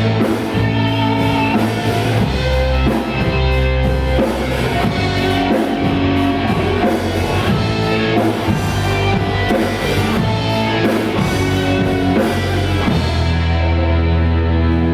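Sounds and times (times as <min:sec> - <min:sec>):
rock band playing: 0:00.0 - 0:14.9.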